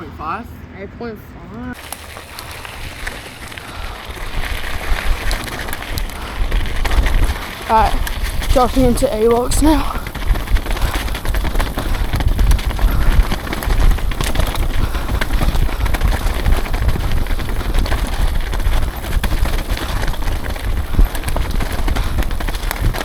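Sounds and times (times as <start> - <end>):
wind buffeting microphone: 1.7 - 23.0
bike knocking: 1.8 - 23.0
tyres rumbling over dirt: 1.8 - 23.0.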